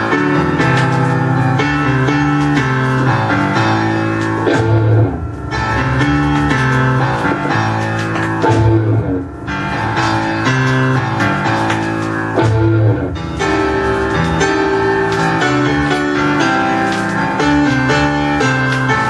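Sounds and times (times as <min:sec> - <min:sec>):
rock music on a turntable: 0:00.0 - 0:19.0.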